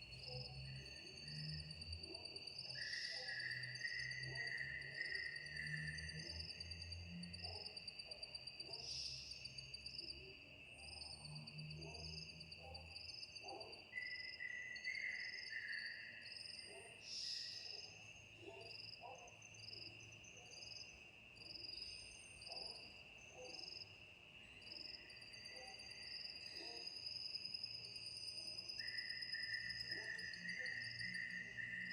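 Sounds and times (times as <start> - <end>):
crickets chirping trills: 0.0 - 31.9
insects droning: 0.0 - 31.9.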